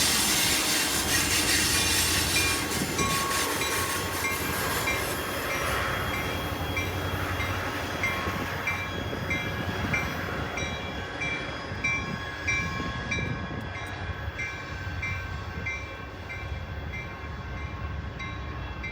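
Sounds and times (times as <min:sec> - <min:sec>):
train wheels rumbling on track: 0:00.0 - 0:18.9.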